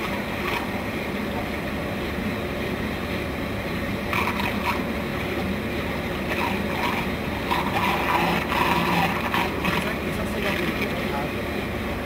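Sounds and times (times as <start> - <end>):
motor humming: 0.0 - 12.0
water jet rushing and splashing: 0.0 - 12.0.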